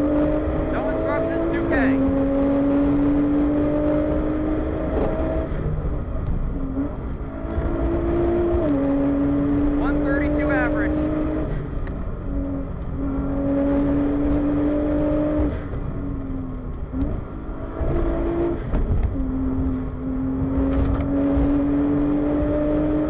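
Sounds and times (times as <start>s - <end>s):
car engine at speed: 0.0s - 23.0s
tyre and road rumble: 0.0s - 23.0s.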